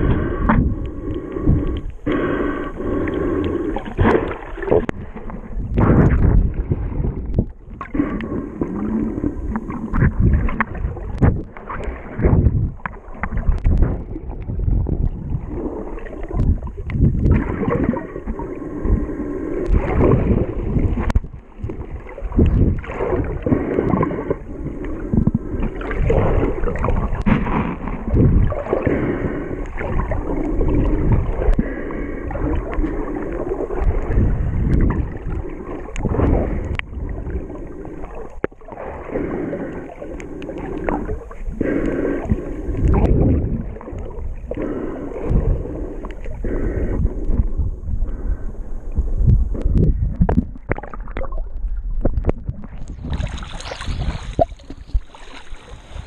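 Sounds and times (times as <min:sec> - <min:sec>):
muffled underwater sloshing: 0:00.0 - 0:56.0.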